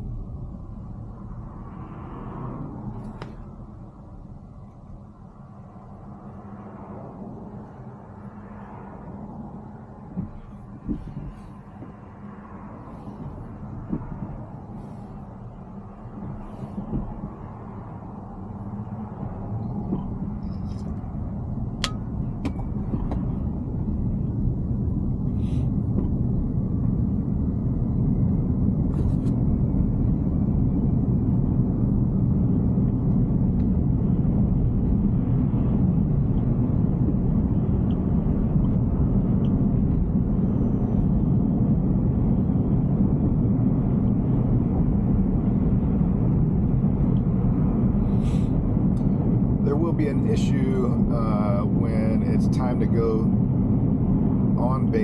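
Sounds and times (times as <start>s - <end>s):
road and tyre noise: 0.0s - 55.0s.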